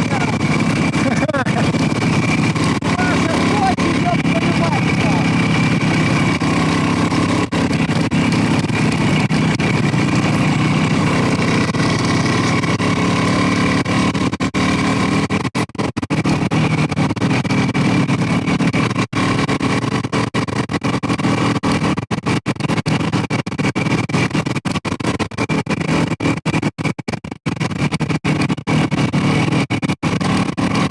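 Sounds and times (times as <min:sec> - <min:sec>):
continuous rushing noise: 0:00.0 - 0:30.9
motorcycle engine running: 0:00.0 - 0:30.9.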